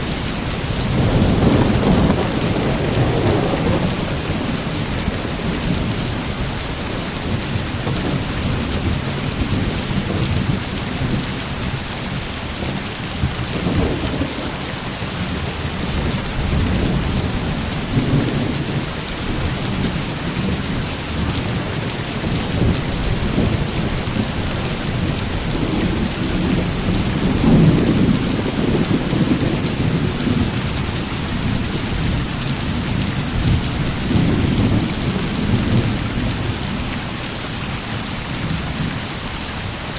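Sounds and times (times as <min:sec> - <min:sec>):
low thunder rumbles: 0:00.0 - 0:37.1
heavy rain: 0:00.0 - 0:39.9.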